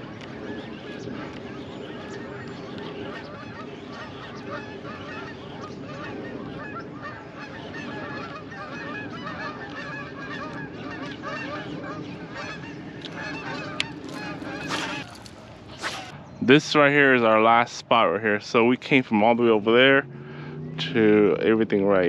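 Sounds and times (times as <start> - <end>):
flock of birds calling: 0.0 - 22.0.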